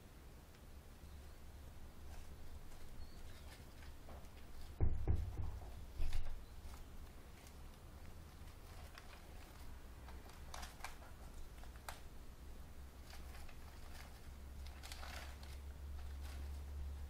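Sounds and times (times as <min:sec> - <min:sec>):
rodents scrabbling in cage bedding: 0:02.0 - 0:12.2, 0:12.9 - 0:17.0.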